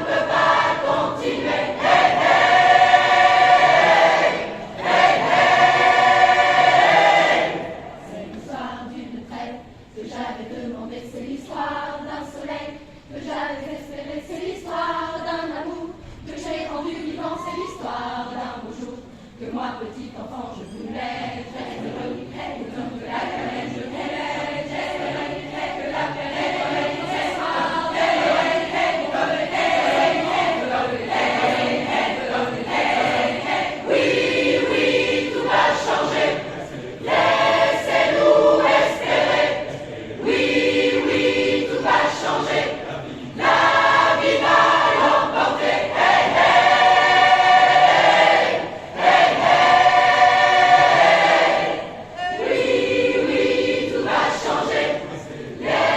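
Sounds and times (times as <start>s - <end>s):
choir singing in parts: 0.0s - 55.9s.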